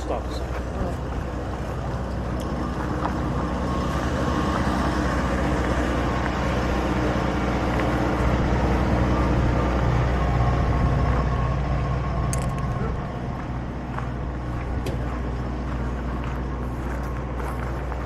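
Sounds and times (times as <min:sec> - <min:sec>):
engine running steadily: 0:00.0 - 0:18.0
outdoor noise: 0:00.0 - 0:18.0.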